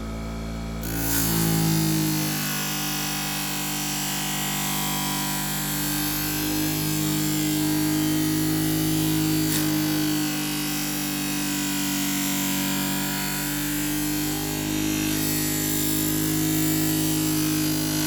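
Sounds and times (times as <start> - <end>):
sharpening machine motor hum: 0.0 - 18.0.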